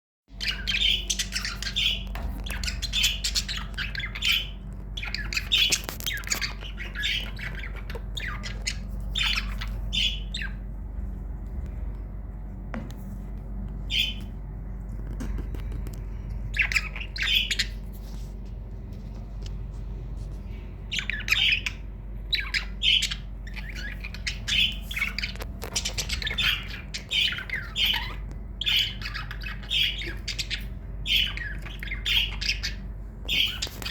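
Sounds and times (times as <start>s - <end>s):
budgerigars chirping and squawking: 0.3s - 10.8s, 13.8s - 14.4s, 15.1s - 19.6s, 20.4s - 33.9s
low hum: 0.3s - 33.9s.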